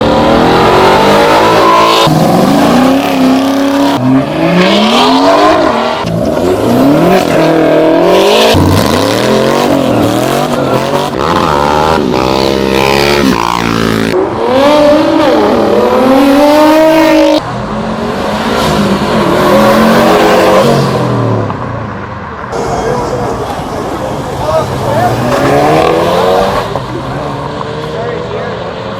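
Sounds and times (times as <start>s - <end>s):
car engines revving and accelerating: 0.0s - 28.9s.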